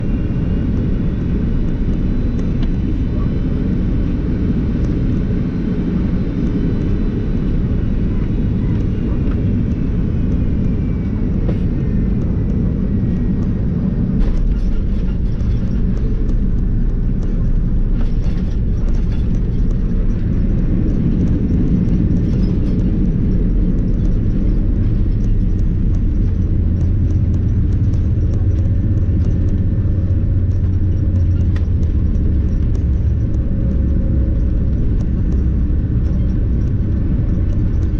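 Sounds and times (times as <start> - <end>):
vehicle rumble: 0.0 - 37.9.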